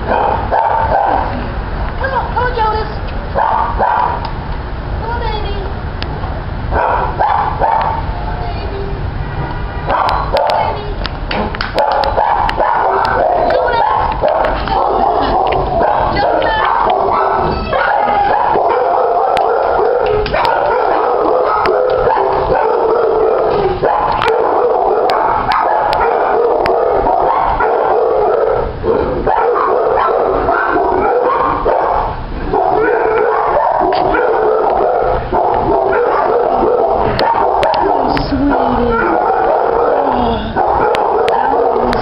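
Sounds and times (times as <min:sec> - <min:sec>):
dogs barking and howling: 0:00.0 - 0:01.4, 0:03.3 - 0:04.3, 0:06.7 - 0:08.1, 0:09.9 - 0:10.8, 0:11.7 - 0:42.0.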